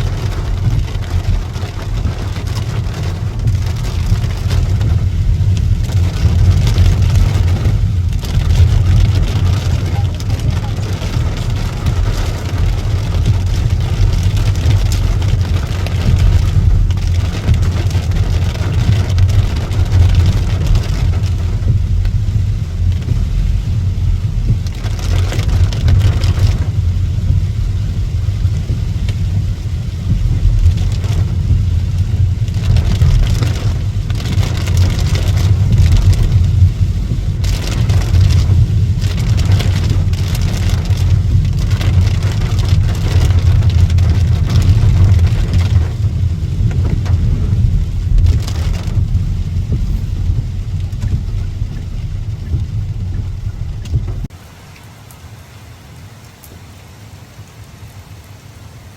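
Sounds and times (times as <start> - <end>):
heavy low rumble: 0.0 - 54.4
rain pattering: 0.0 - 58.9.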